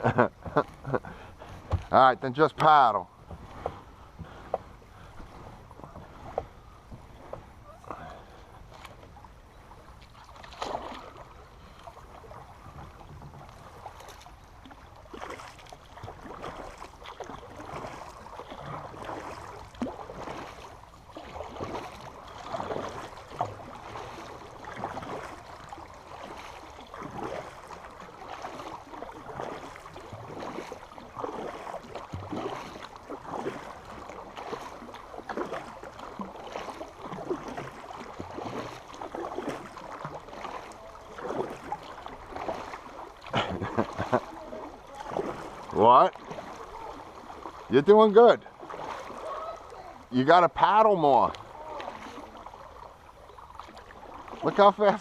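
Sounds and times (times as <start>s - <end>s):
flowing creek water: 0.0s - 55.0s
paddle strokes splashing: 0.0s - 55.0s.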